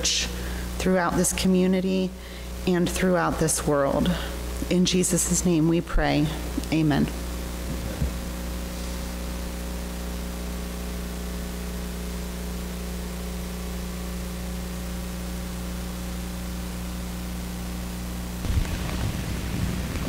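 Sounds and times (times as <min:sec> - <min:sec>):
electrical hiss: 0:00.0 - 0:20.0
low hum: 0:00.0 - 0:20.0.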